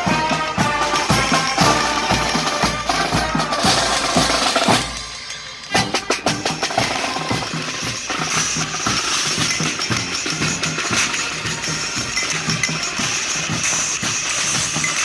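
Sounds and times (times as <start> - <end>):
marching band playing: 0.0 - 15.0
snare and bass drums: 0.0 - 15.0.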